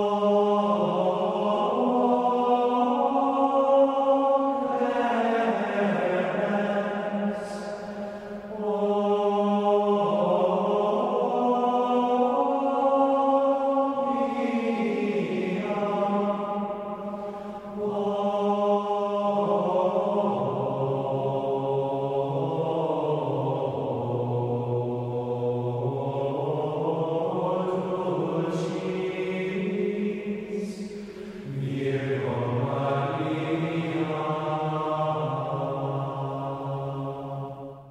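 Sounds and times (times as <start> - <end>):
chant-like choral singing: 0.0 - 37.9.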